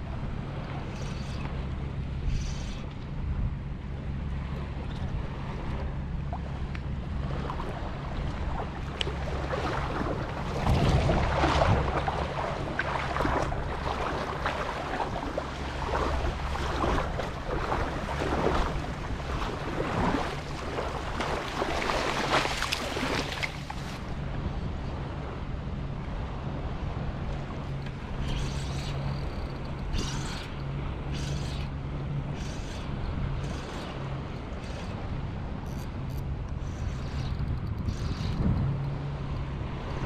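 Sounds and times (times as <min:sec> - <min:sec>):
steady low hum: 0:00.0 - 0:40.0
wind on microphone: 0:00.0 - 0:40.0
small waves lapping: 0:04.1 - 0:25.3, 0:26.5 - 0:40.0.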